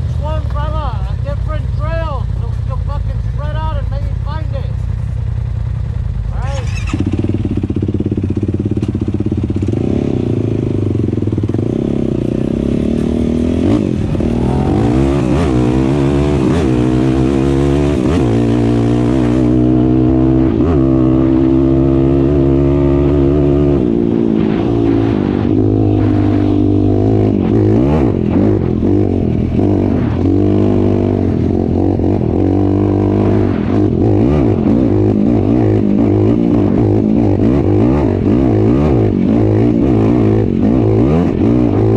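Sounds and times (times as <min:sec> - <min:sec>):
utility vehicle engine revving: 0:06.3 - 0:41.9.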